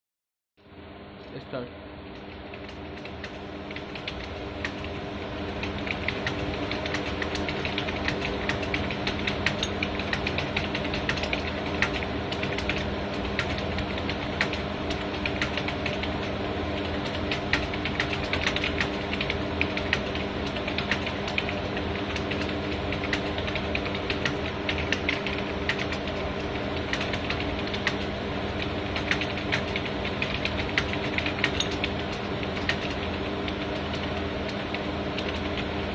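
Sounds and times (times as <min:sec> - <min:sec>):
steady low hum: 0:00.6 - 0:35.9
keyboard typing: 0:02.2 - 0:35.8.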